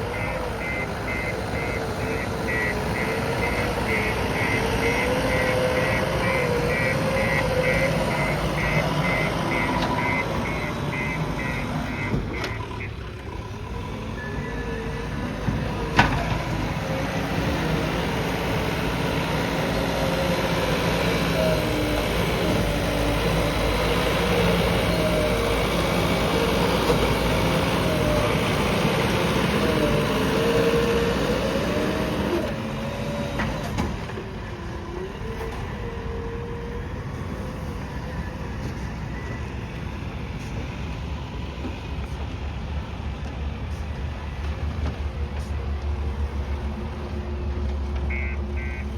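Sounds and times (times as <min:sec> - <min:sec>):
backhoe diesel engine running: 0:00.0 - 0:48.9.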